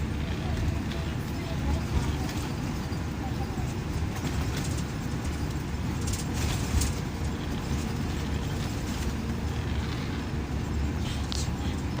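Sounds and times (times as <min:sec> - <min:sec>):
coach engine and road rumble: 0:00.0 - 0:12.0
interior rattles and clicks: 0:00.0 - 0:12.0.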